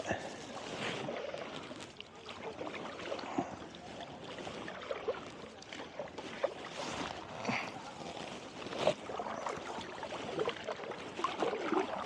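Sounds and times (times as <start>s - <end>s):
kayak paddles splashing: 0.0s - 12.0s
small splashes against hull: 0.0s - 12.0s.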